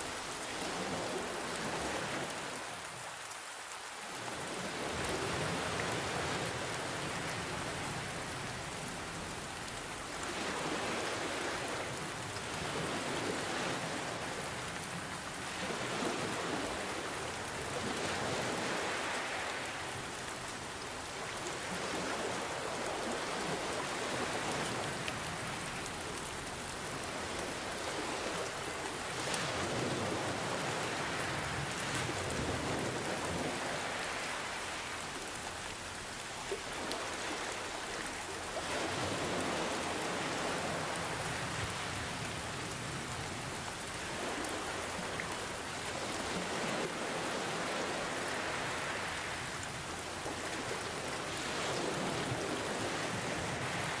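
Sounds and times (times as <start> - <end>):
steady rain falling: 0.0 - 54.0
ocean waves washing: 4.2 - 54.0.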